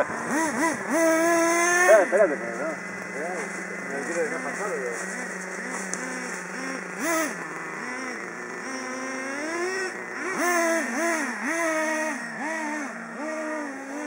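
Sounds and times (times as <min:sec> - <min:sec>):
small nitro engines revving: 0:00.0 - 0:14.0.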